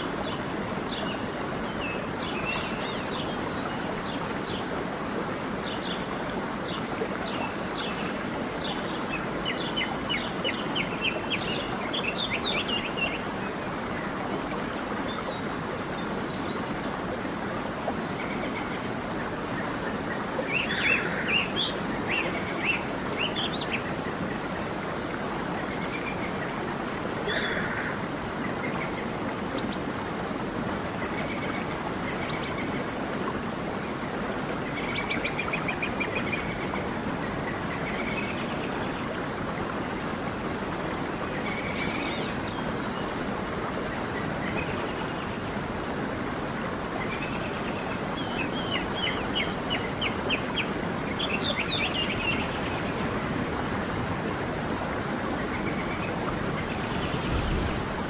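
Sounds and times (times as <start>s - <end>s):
flowing stream: 0.0s - 58.0s
songbirds chirping: 0.0s - 58.0s.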